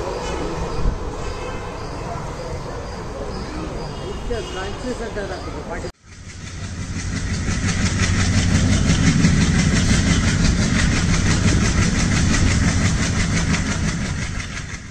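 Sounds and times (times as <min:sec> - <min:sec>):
train rumbling: 0:00.0 - 0:03.8, 0:04.9 - 0:14.9.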